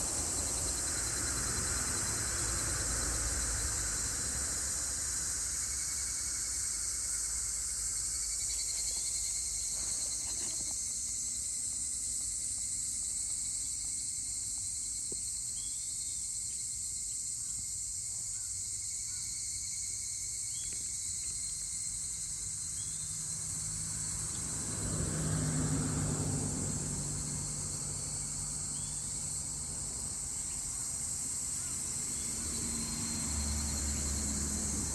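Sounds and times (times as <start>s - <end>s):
insects chorus: 0.0s - 34.9s.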